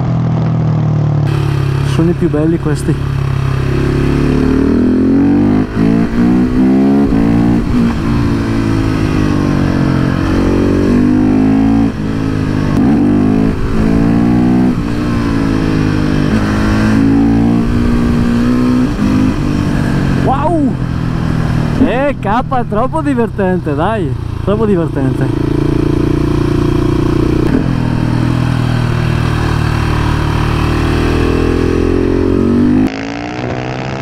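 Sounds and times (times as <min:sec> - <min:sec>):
motorcycle engine accelerating hard: 0:00.0 - 0:23.2, 0:23.8 - 0:34.0.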